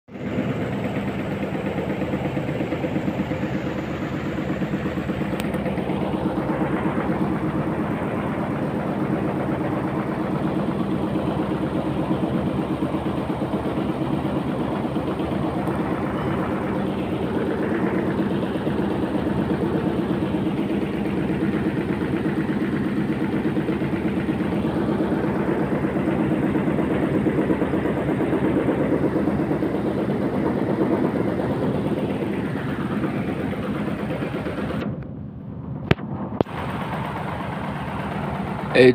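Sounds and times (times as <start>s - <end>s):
engine idling: 0.1s - 38.9s.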